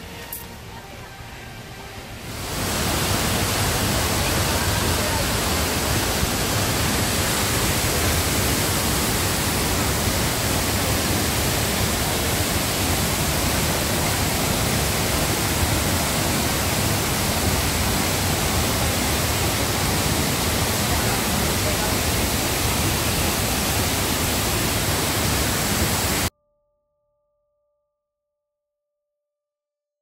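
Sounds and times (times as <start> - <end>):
waterfall rushing: 1.8 - 26.3.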